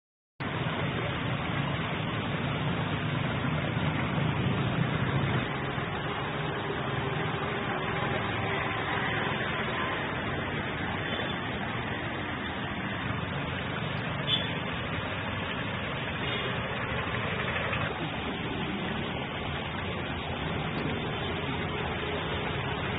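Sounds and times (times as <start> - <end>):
stream flowing over rocks: 0.4 - 22.9.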